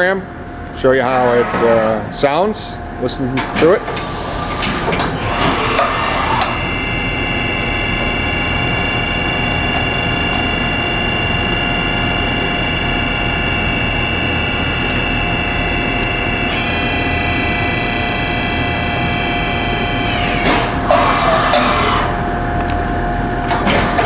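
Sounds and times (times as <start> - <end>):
machine whine with hum: 0.0 - 24.0.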